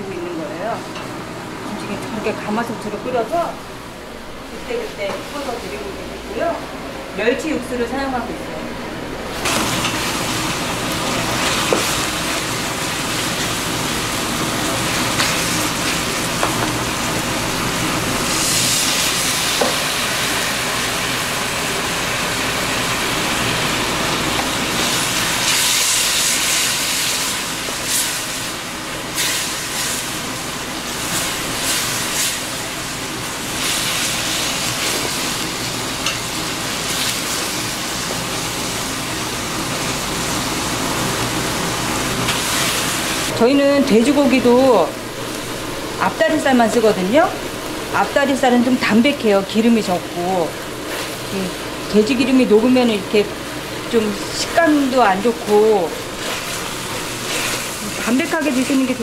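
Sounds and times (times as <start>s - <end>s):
meat sizzling in a wok: 9.4s - 43.5s, 44.1s - 59.0s.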